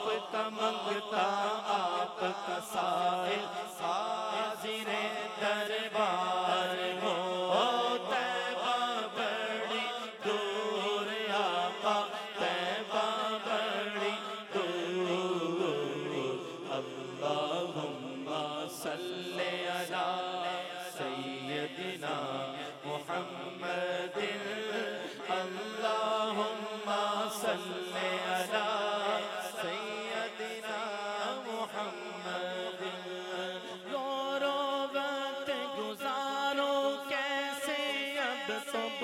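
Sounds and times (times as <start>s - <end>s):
man singing into a microphone: 0.0s - 39.0s.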